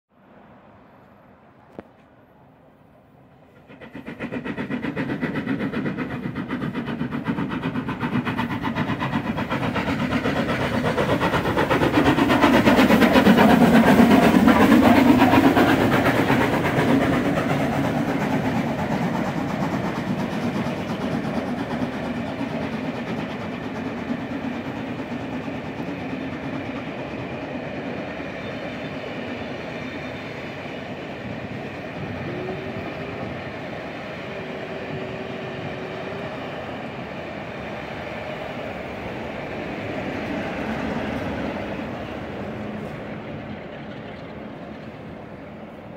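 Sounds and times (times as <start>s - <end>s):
train coaches rolling on rails: 2.9s - 45.9s
steam locomotive exhaust beat: 3.4s - 45.9s.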